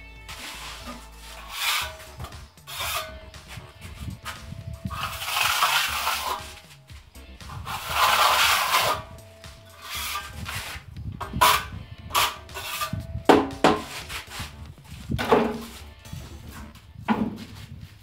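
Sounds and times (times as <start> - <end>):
trowel scraping cement on wall: 0.3 - 6.8, 7.5 - 9.1, 9.7 - 16.7.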